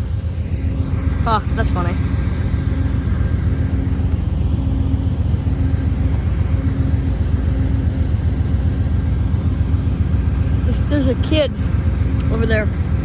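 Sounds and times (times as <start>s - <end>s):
diesel locomotives idling: 0.0s - 13.0s
faint higher hum: 0.0s - 13.0s.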